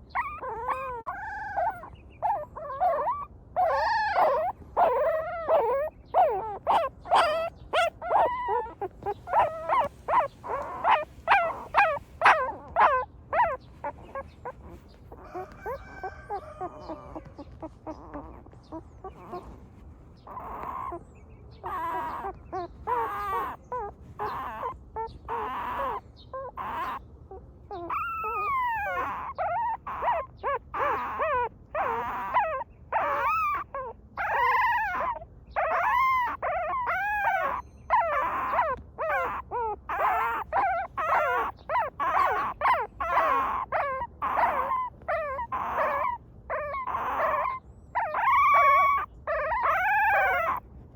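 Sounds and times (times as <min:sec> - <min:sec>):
puppies whimpering and crying: 0:00.0 - 0:50.9.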